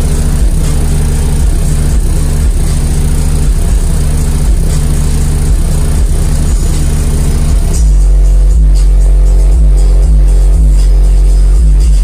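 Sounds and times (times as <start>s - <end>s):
subwoofer playing bass-heavy music: 0.0s - 12.0s.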